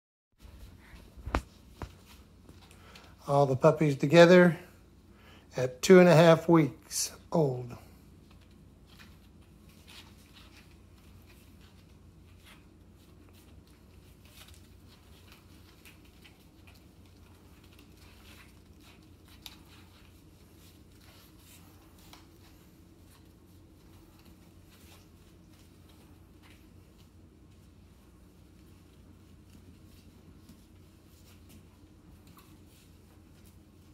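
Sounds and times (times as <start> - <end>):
puppy paws scratching and pattering: 0.4 - 5.3, 5.9 - 33.9
room hum: 0.4 - 33.9.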